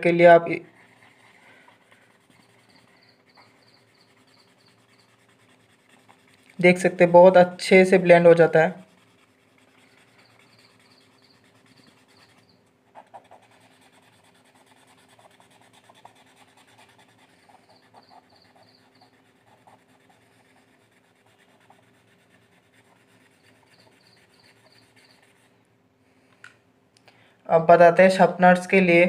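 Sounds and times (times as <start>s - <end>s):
fingertip rubbing charcoal on paper: 0.5s - 25.6s.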